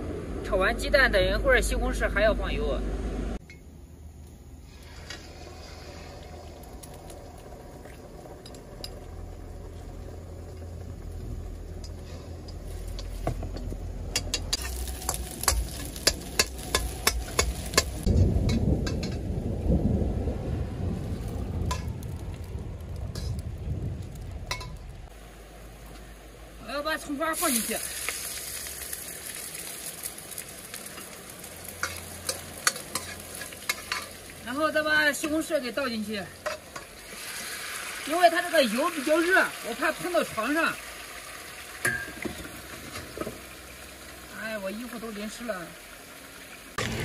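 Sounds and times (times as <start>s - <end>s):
eggs sizzling in oil: 4.5s - 19.8s, 20.4s - 46.9s
rain falling: 4.6s - 47.0s.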